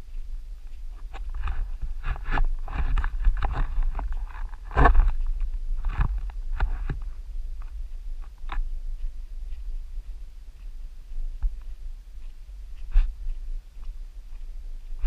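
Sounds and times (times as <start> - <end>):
footsteps on dirt trail: 0.0 - 15.0
wind rumbling on microphone: 0.0 - 15.0.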